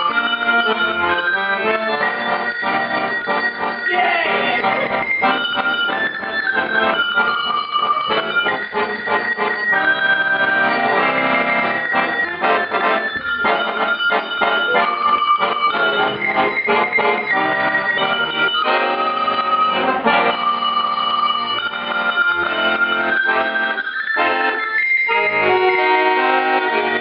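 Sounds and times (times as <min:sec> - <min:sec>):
accordion chords: 0:00.0 - 0:27.0.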